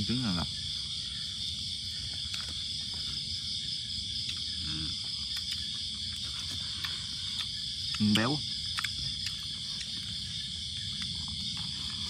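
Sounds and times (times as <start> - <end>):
night insects chorus: 0.0 - 12.0.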